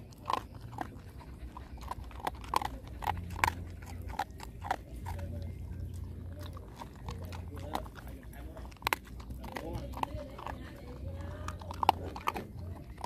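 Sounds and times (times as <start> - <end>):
dog crunching dry kibble: 0.0 - 13.0.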